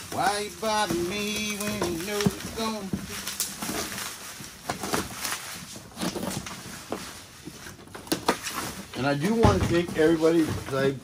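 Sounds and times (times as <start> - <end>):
cardboard boxes shifting: 0.0 - 11.0
plastic and bubble wrap rustling: 0.0 - 11.0.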